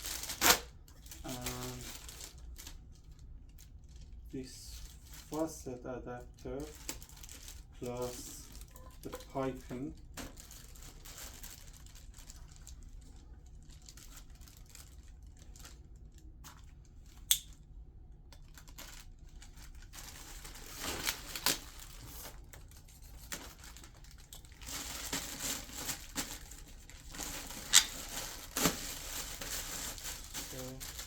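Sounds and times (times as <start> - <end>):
plastic packaging crinkling: 0.0 - 17.6, 18.4 - 31.0.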